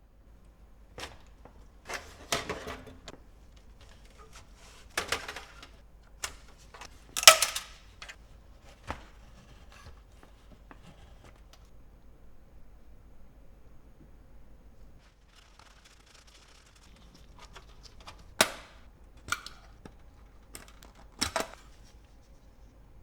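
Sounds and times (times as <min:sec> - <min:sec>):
plastic and metal parts clattering: 0:00.4 - 0:11.7, 0:15.0 - 0:22.7.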